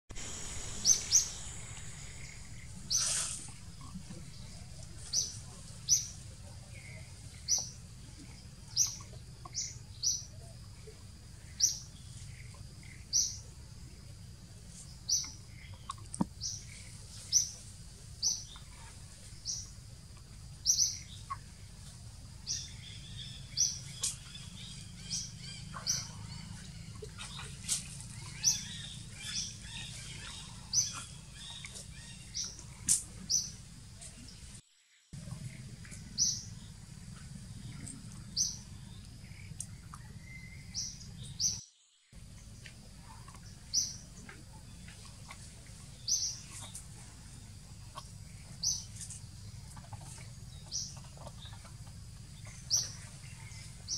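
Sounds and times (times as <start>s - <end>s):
bird chirping: 0.1s - 10.6s, 14.8s - 21.6s, 22.4s - 34.6s, 35.2s - 41.6s, 42.2s - 53.9s
low background noise: 0.1s - 53.9s.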